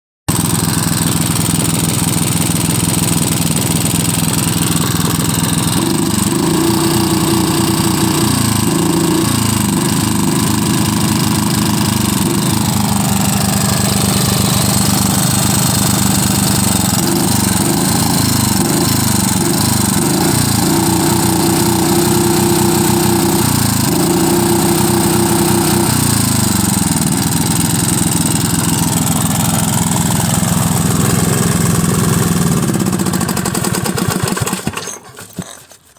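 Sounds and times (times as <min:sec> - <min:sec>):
engine running roughly: 0:00.3 - 0:35.9.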